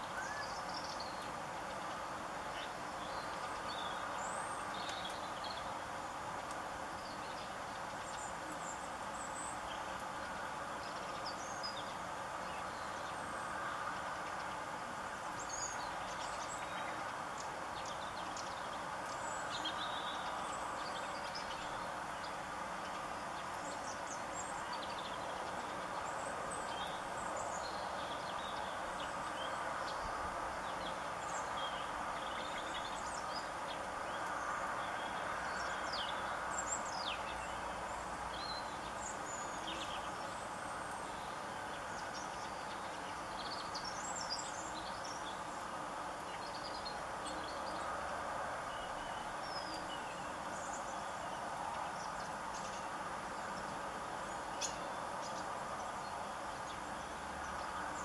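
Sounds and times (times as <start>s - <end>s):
small birds chirping: 0.0s - 58.0s
steady background noise: 0.0s - 58.0s.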